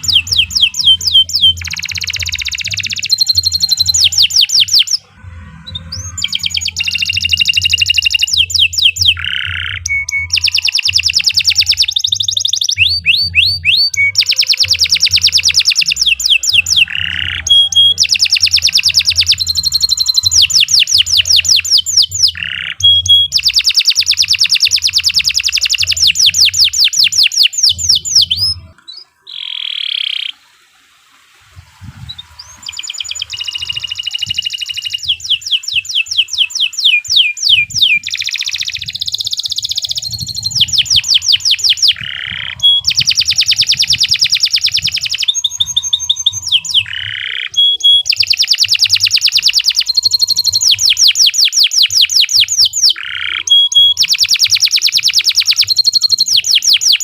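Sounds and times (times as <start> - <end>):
canary singing trills: 0.0 - 30.6, 31.6 - 57.0.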